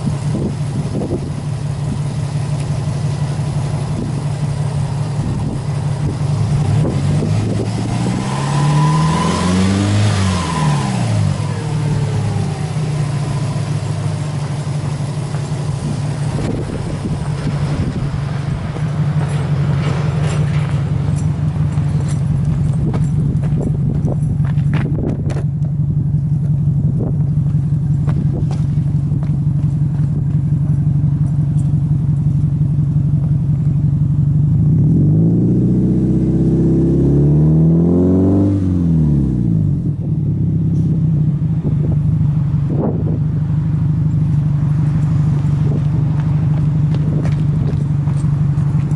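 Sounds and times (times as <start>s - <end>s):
car engine idling and revving: 0.0s - 48.9s.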